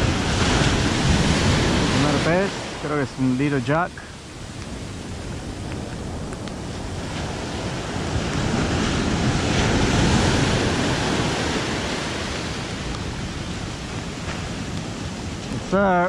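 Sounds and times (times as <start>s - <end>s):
ocean surf breaking: 0.0s - 16.0s
wind buffeting microphone: 0.0s - 16.0s.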